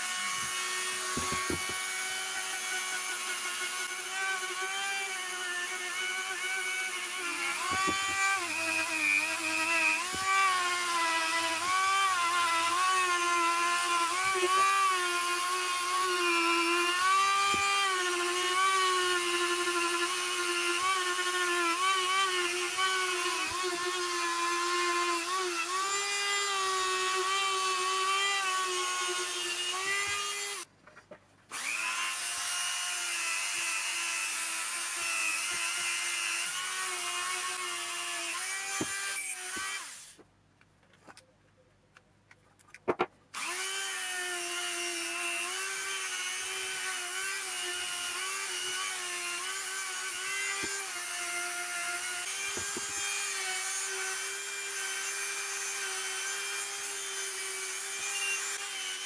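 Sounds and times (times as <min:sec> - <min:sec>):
rotary tool whining on metal: 0:00.0 - 0:30.7, 0:31.5 - 0:40.2, 0:43.4 - 0:59.0.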